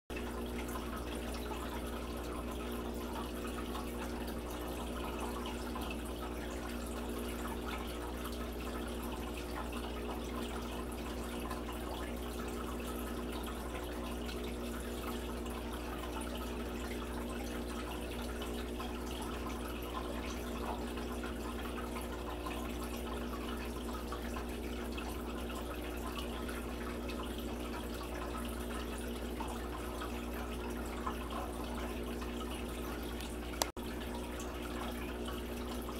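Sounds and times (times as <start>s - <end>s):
low electrical pump hum: 0.1s - 35.9s.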